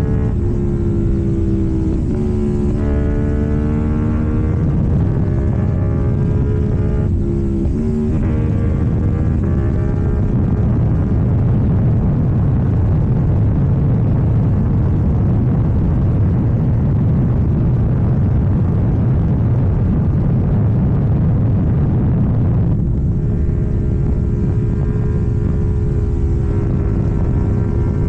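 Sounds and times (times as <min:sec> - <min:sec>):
motorcycle engine running: 0:00.0 - 0:28.0
rushing wind noise: 0:00.0 - 0:28.0.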